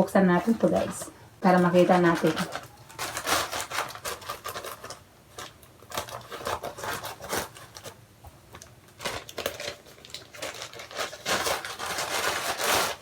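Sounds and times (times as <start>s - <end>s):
packaging being torn and crinkled: 1.8s - 13.0s.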